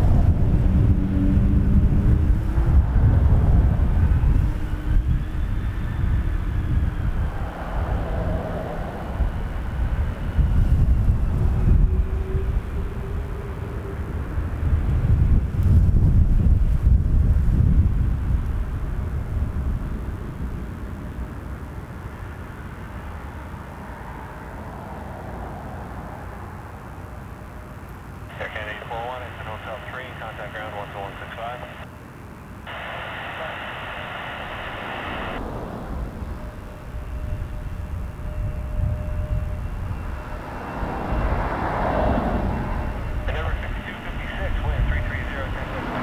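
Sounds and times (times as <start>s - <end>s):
airliner low rumble: 0.0s - 46.0s
faint high engine whine: 0.0s - 46.0s.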